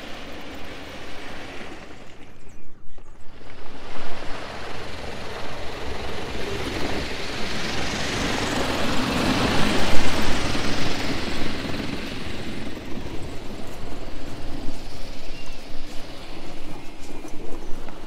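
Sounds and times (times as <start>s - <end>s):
tracked vehicle driving on grass: 0.0s - 18.0s.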